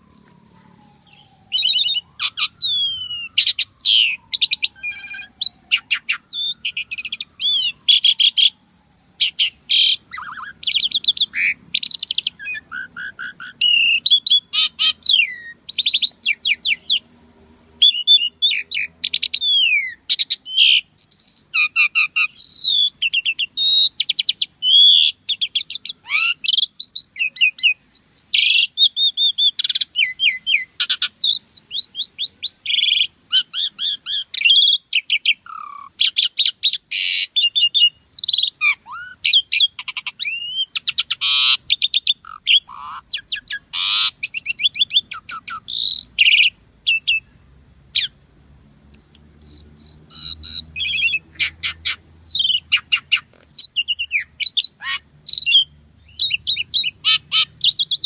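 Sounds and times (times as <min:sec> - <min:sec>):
starling singing: 0:00.0 - 0:48.2, 0:49.0 - 0:58.0.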